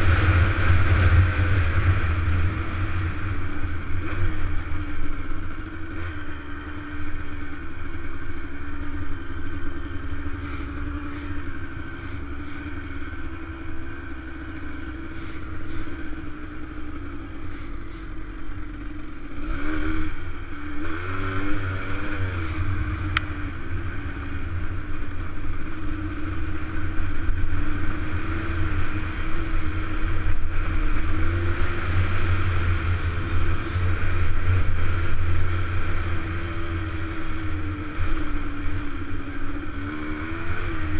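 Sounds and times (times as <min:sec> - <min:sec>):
dirt bike engine rumbling: 0:00.0 - 0:40.9.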